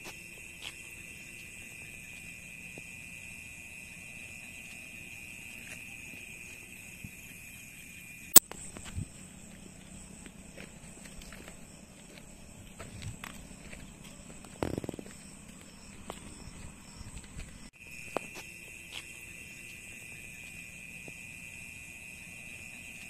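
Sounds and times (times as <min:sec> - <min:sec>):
insect trill: 0:00.0 - 0:23.0.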